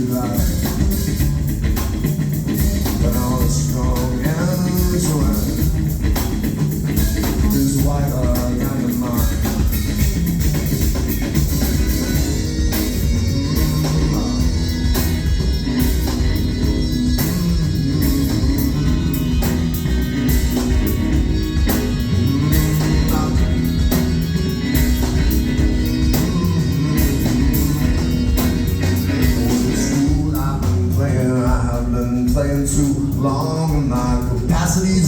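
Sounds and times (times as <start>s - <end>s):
live rock band playing: 0.0s - 35.0s
low bass line: 0.0s - 35.0s.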